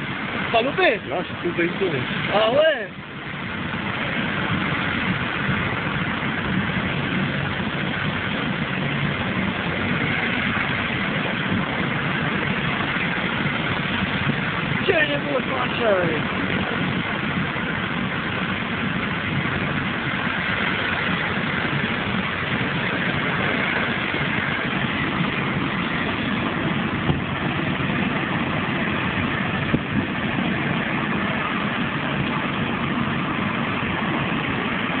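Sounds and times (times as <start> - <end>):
helicopter engine and rotor: 0.0 - 35.0.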